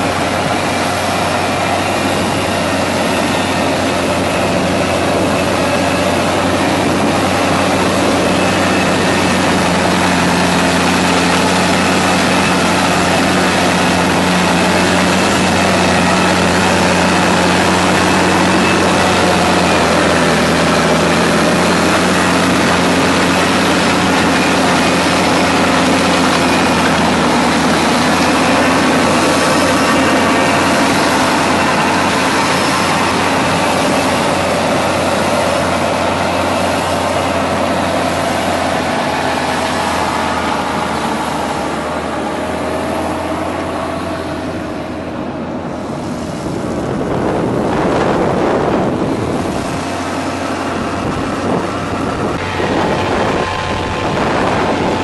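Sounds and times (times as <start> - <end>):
diesel engine running under load: 0.0 - 55.0
ditcher dragging through mud: 0.0 - 55.0.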